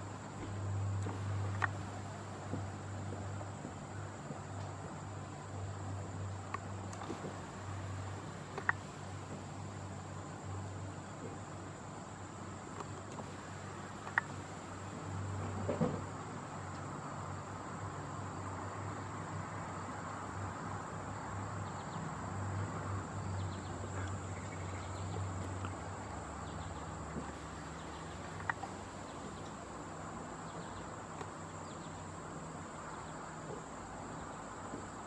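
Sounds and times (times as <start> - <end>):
insects trilling: 0.0 - 35.0
low steady hum: 0.0 - 35.0.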